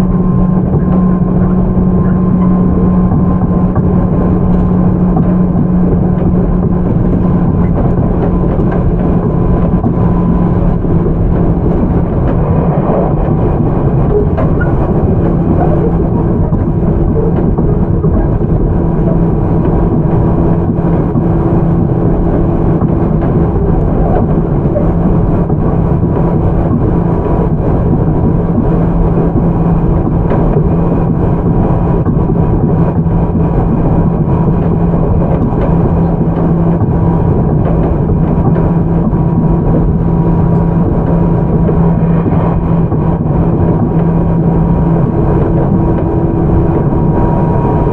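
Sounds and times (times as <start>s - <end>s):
train motor and gear hum: 0.0s - 47.9s
wheels rumbling on rail: 0.0s - 47.9s.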